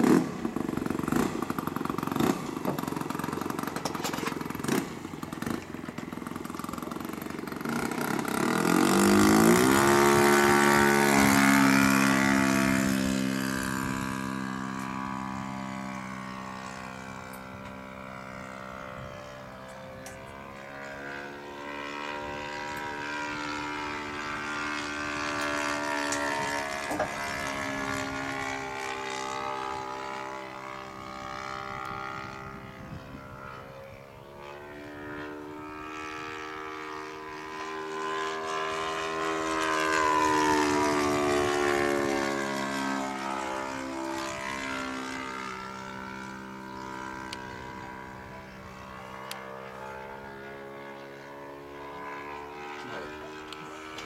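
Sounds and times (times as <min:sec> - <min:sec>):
model plane engine: 0:00.0 - 0:54.0.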